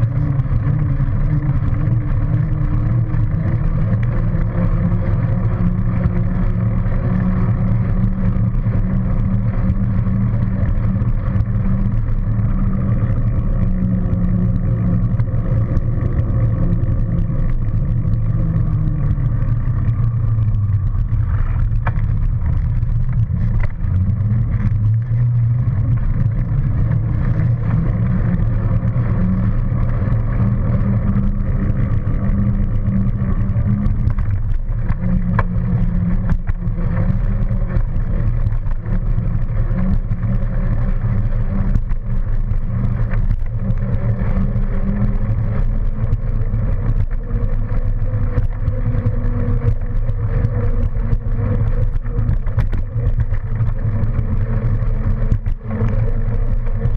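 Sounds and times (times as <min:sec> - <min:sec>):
rolling noise: 0:00.0 - 0:56.9
wind buffeting microphone: 0:00.0 - 0:56.9.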